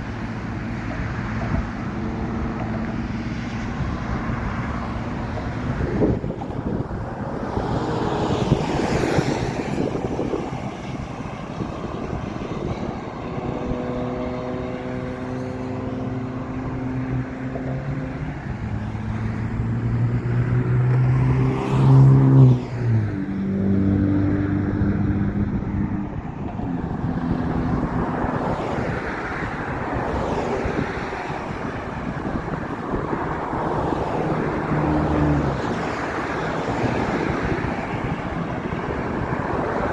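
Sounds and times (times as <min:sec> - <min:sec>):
vehicle engine passing: 0:00.0 - 0:39.9.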